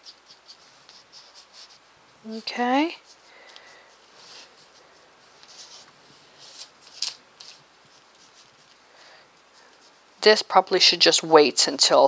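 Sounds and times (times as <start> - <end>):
paintbrush brushing on paper: 0.0 - 10.8.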